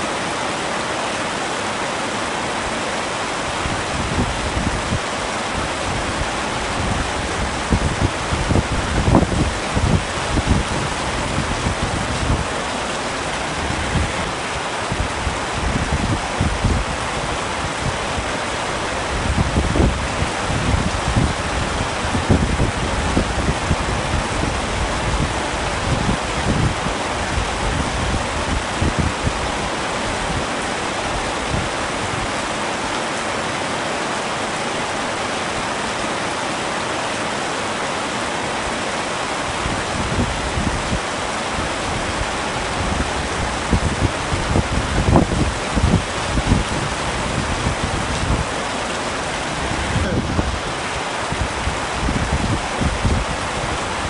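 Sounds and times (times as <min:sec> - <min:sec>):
heavy rain falling: 0:00.0 - 0:54.0
wind gusts: 0:00.0 - 0:54.0.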